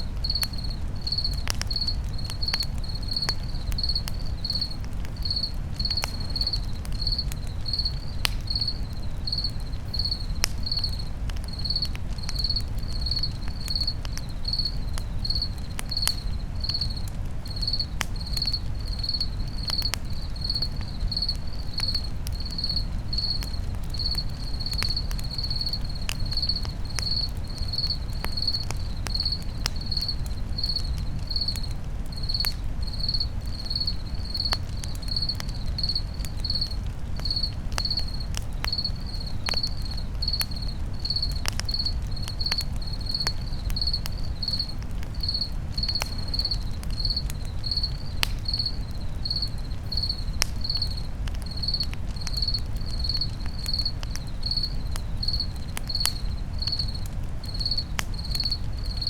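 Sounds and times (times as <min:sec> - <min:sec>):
campfire crackling and popping: 0:00.0 - 0:59.0
cricket chirping: 0:00.0 - 0:59.0.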